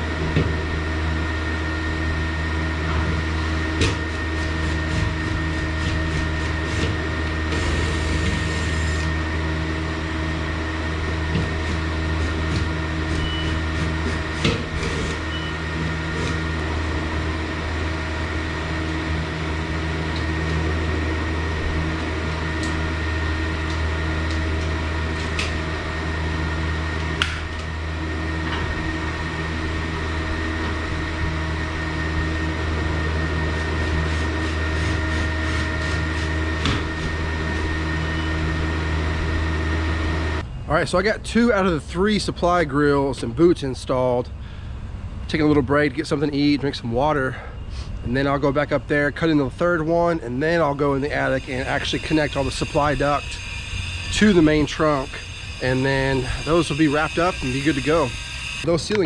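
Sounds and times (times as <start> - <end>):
motor humming: 0.0 - 40.5, 51.0 - 58.7.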